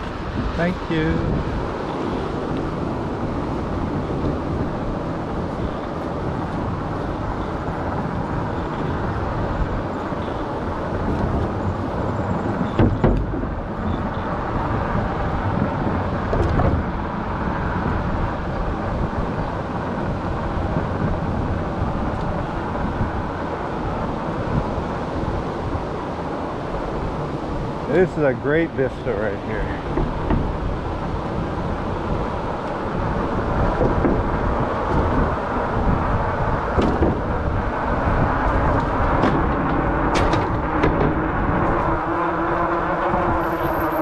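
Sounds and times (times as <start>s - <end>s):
rushing wind and road noise: 0.0s - 44.0s.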